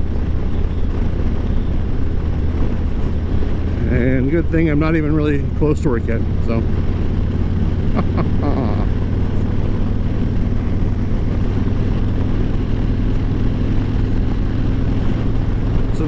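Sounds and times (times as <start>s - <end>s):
motorcycle engine rumble: 0.0s - 16.0s
road noise: 0.0s - 16.0s.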